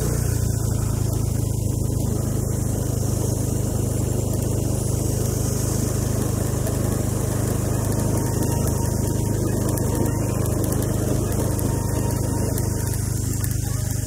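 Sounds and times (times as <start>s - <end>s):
engine running steadily: 0.0s - 14.0s
high hiss: 0.0s - 14.0s.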